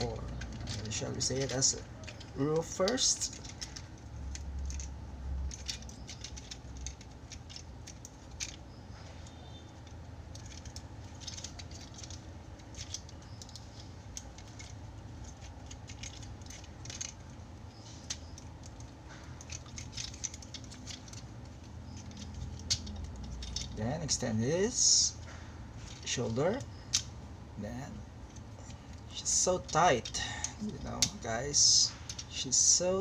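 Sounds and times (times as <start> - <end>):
plastic toy clicks and rattles: 0.0 - 33.0
steady low hum: 0.0 - 33.0.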